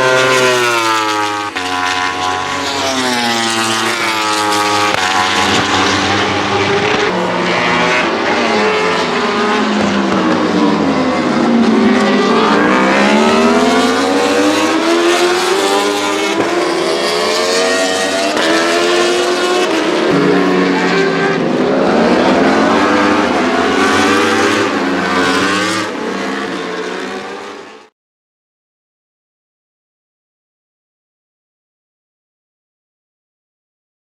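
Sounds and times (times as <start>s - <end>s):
motorcycle engine at high revs: 0.0s - 27.9s.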